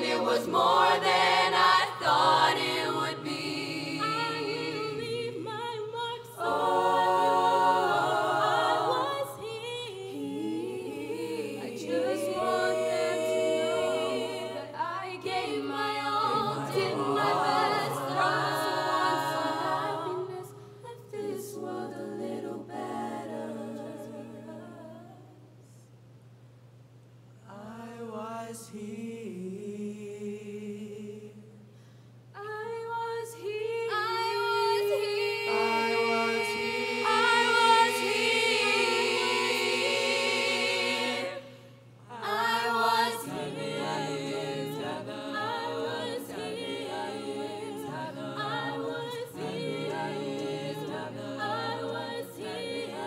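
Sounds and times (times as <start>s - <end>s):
a cappella group singing: 0.0s - 25.8s, 27.4s - 53.0s.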